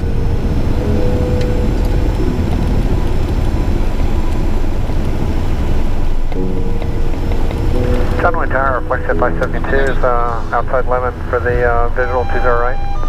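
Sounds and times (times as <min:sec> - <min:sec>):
jet cockpit low rumble: 0:00.0 - 0:13.0
jet engines humming: 0:00.0 - 0:13.0.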